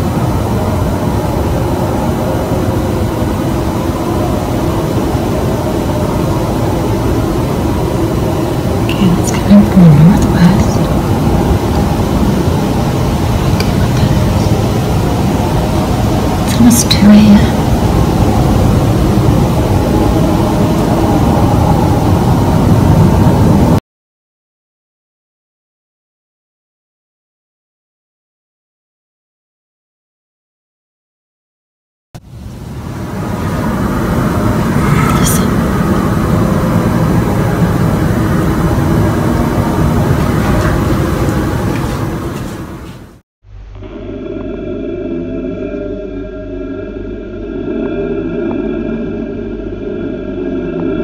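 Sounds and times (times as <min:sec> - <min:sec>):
low rumbling drone in sky: 0:00.0 - 0:23.8, 0:32.2 - 0:51.0.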